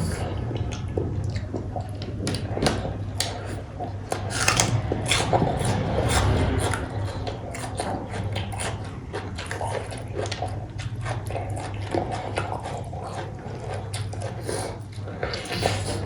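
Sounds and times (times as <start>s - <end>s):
chewing and eating mouth noises: 0.0s - 16.0s
steady low hum: 0.0s - 16.0s.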